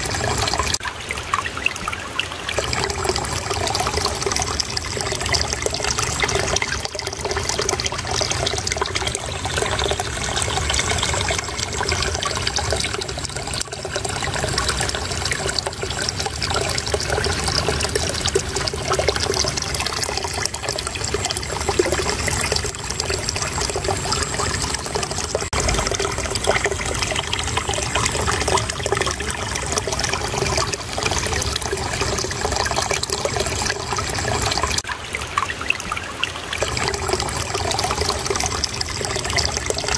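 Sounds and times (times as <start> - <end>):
shallow water babbling: 0.0 - 39.9.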